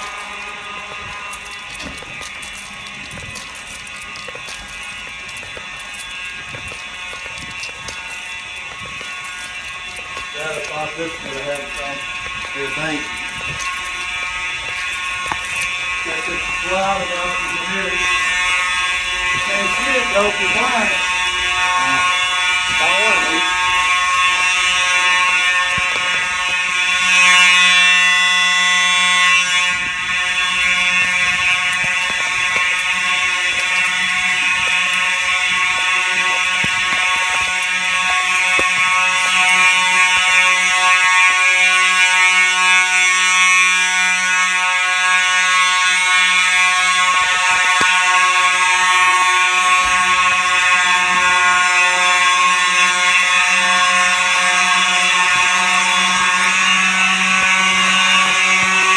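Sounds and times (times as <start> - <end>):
fire alarm horn buzzing: 5.4 - 58.9.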